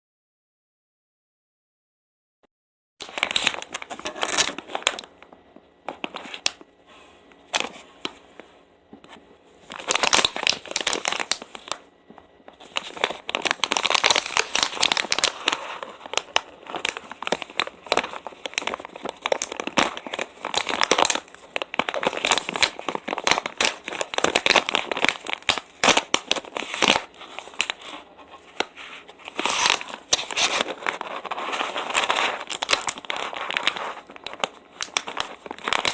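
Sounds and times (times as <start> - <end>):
plastic snack bag crinkling: 3.0 - 6.7, 9.6 - 11.8, 12.5 - 35.9.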